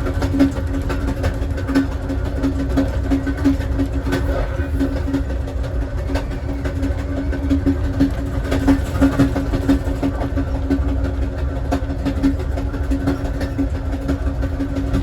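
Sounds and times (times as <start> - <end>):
pulsing hum: 0.0 - 15.0
train wheels rumbling on rail: 0.0 - 15.0.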